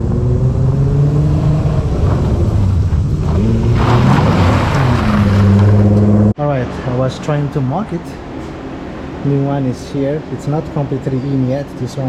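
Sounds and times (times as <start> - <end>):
car engine running: 0.0 - 12.0
rush of noise: 0.0 - 12.0.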